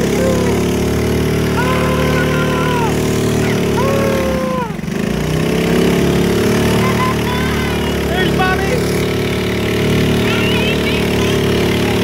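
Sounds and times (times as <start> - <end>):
drawn-out cries: 0.0 - 12.0
small boat engines running: 0.0 - 12.0.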